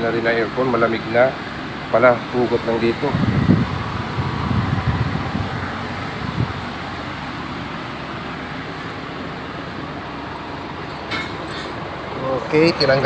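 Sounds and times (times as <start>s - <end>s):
truck engine running: 0.0s - 10.9s, 11.9s - 13.0s
air conditioning blower rushing: 0.0s - 11.1s, 11.8s - 13.0s.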